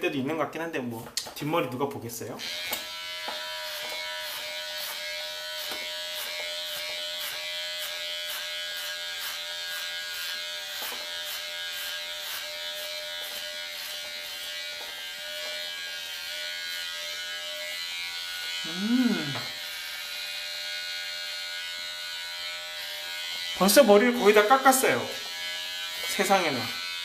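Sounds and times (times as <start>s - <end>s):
hair clippers buzzing: 2.4s - 27.0s.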